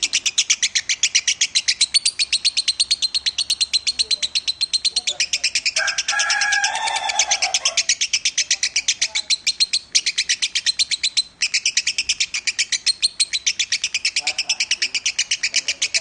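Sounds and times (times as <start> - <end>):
lovebird chirping chatter: 0.0 - 16.0.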